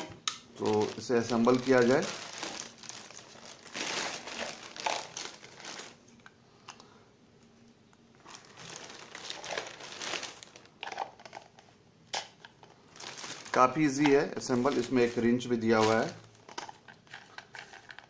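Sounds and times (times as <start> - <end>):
plastic bags crinkling: 0.5 - 6.2, 8.2 - 11.6, 12.2 - 18.0.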